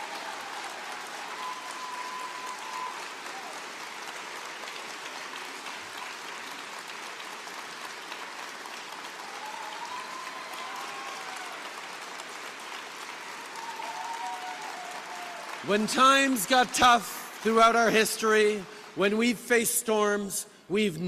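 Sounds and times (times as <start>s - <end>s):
audience applauding: 0.0s - 19.2s.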